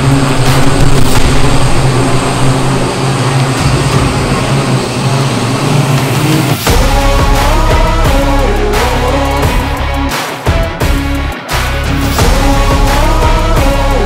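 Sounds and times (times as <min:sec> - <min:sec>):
propellers buzzing hum: 0:00.0 - 0:14.0.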